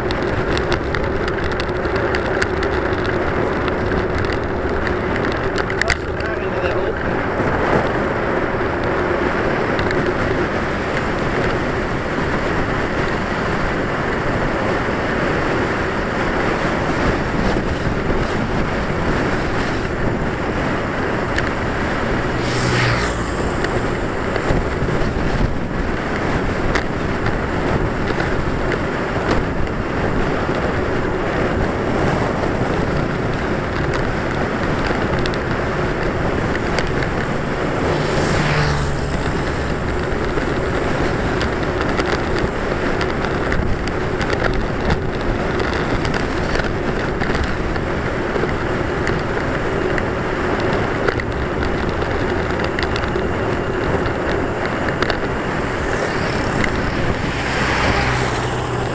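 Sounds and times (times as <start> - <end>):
rushing wind noise: 0.0 - 58.9.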